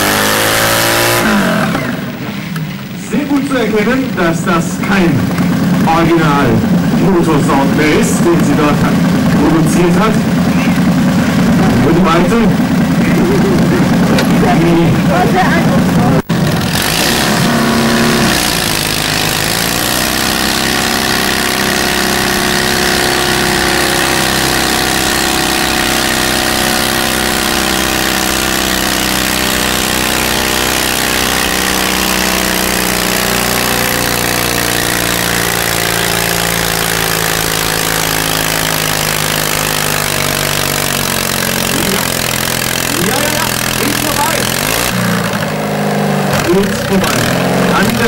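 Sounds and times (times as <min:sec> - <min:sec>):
pulling tractor engine running hard: 0:00.0 - 0:48.0.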